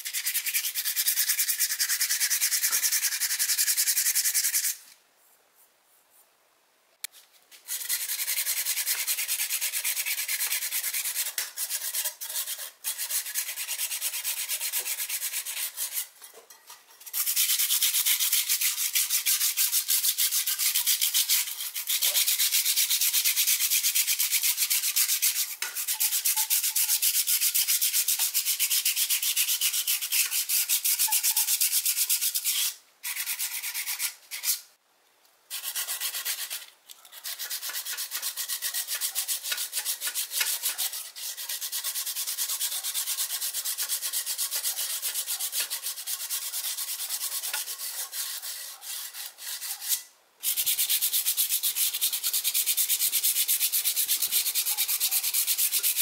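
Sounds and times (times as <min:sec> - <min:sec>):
sandpaper scrubbing rusty steel: 0:00.0 - 0:04.8, 0:07.5 - 0:34.7, 0:35.5 - 0:56.0.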